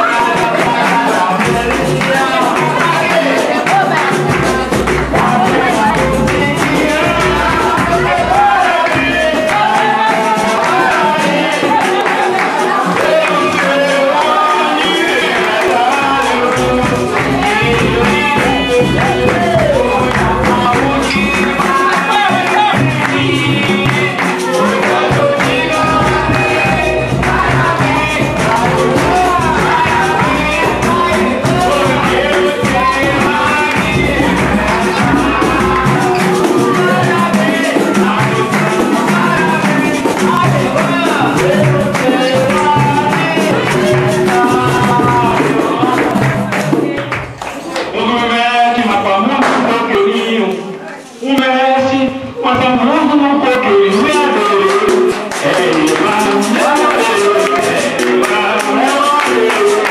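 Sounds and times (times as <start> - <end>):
steady drum beat: 0.0 - 47.4, 53.9 - 59.9
tambourine rhythm: 0.0 - 47.4, 53.8 - 59.9
rattling percussion: 0.0 - 47.7, 53.5 - 59.9
hand clapping: 0.0 - 48.0, 48.7 - 50.6, 53.5 - 59.9
group singing: 0.0 - 59.9.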